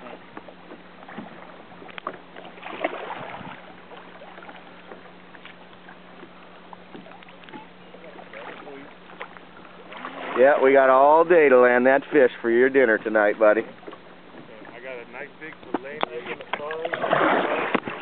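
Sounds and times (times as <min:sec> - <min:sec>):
water lapping around kayak: 0:00.0 - 0:18.0.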